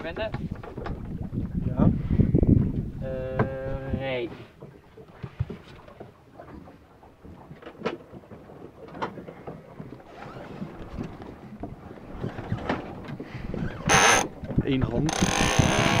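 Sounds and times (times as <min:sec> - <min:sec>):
water noise: 0:00.0 - 0:16.0
wind: 0:00.0 - 0:16.0.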